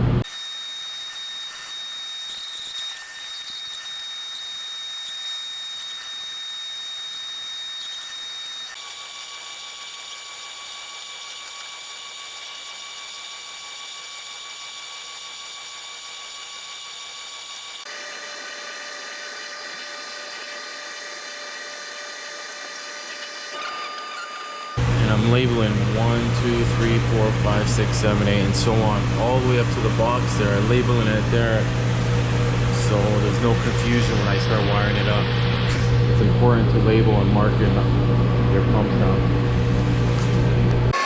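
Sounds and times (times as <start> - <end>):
high-pitched pump whine: 0.0 - 41.0.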